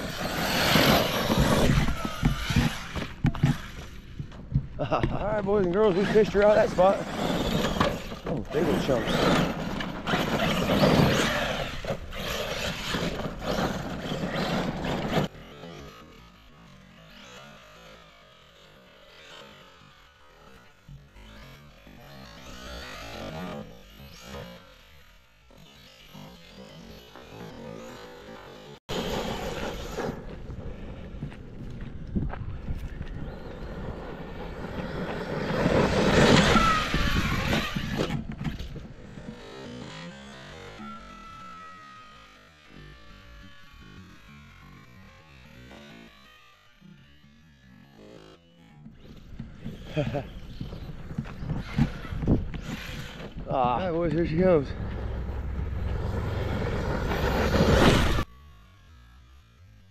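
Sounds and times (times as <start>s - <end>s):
rc truck motor whining: 0.0s - 59.9s
tyre and chassis noise: 0.0s - 59.9s.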